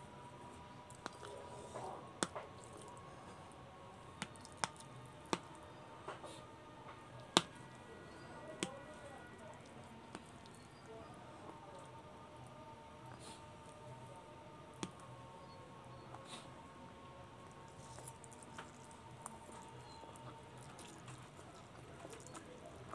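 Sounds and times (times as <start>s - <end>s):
wet squishing noodles: 0.0s - 22.9s.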